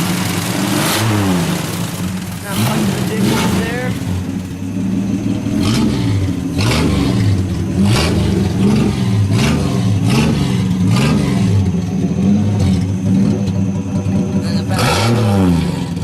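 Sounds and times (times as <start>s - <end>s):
unmuffled engine revving: 0.0s - 16.0s.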